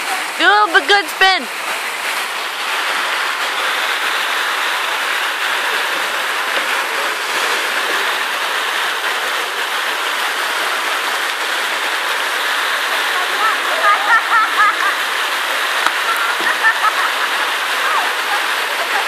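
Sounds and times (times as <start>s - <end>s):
water rushing into pool: 0.0s - 19.0s.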